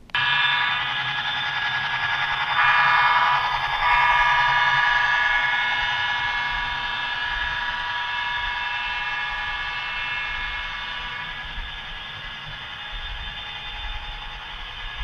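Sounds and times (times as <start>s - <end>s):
model train whine: 0.0s - 15.0s.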